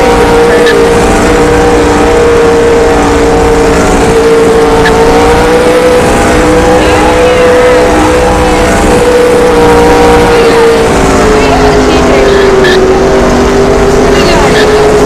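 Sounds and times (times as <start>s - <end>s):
engine at high revs: 0.0s - 15.0s.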